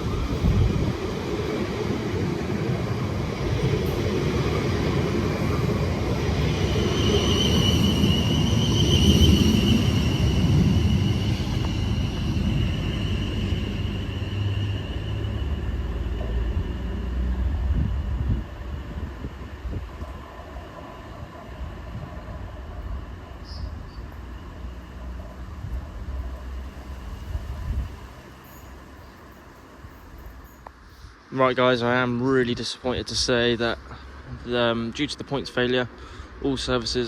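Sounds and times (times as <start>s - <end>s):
high wavering traction whine: 0.0s - 30.7s
train rumbling past: 0.0s - 37.0s.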